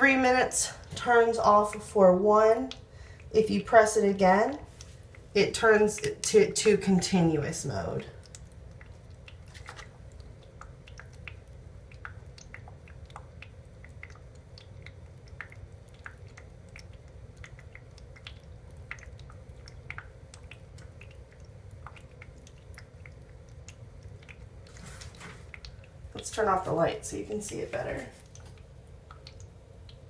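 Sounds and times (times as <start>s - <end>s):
faint steady hum: 0.0s - 30.0s
water popping and gurgling: 0.0s - 30.0s.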